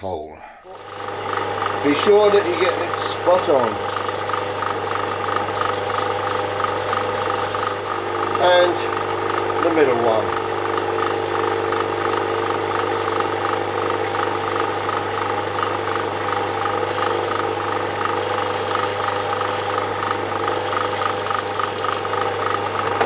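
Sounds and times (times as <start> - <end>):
electric drill drilling: 0.6 - 23.0.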